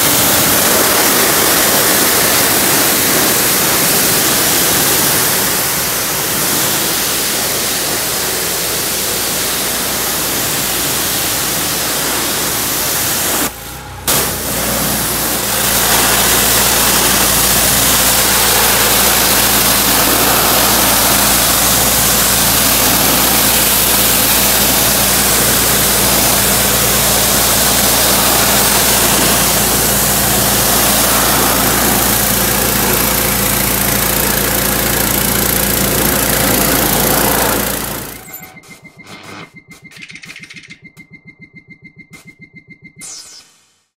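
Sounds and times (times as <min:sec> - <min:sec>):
high-pressure water spray hiss: 0:00.0 - 0:38.2
pressure washer engine running: 0:00.0 - 0:38.3.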